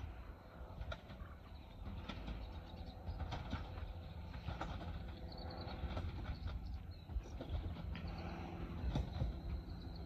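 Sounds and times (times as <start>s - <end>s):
clicks from train track: 0.0s - 10.0s
train rumbling in distance: 0.0s - 10.0s.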